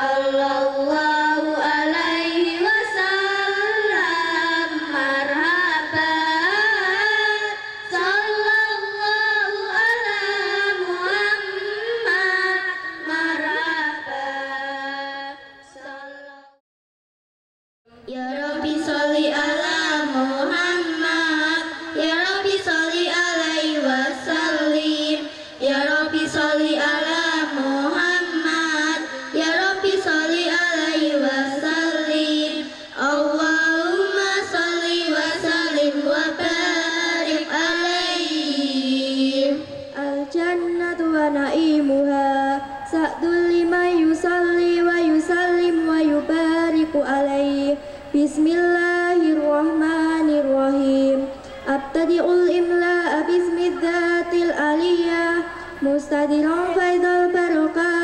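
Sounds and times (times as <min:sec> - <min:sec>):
girls singing a devotional chant: 0:00.0 - 0:16.6, 0:17.9 - 0:58.0.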